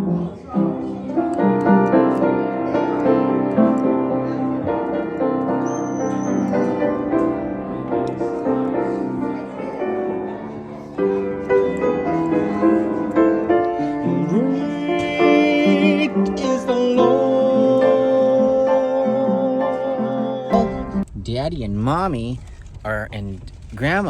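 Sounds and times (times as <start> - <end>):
slow piano melody with chords: 0.0 - 21.2.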